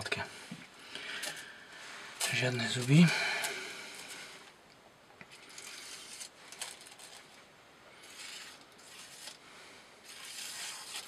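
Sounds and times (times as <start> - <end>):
faint scraping and handling: 0.2 - 4.6, 5.2 - 11.0.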